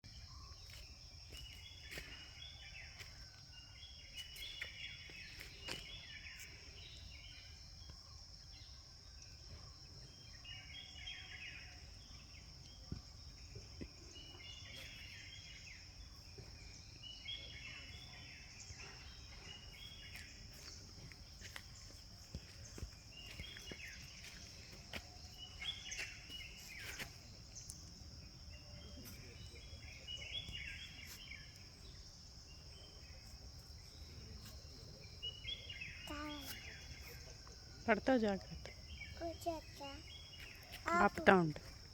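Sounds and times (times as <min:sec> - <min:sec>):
crickets droning: 0:00.0 - 0:41.9
birds chirping: 0:00.1 - 0:41.9.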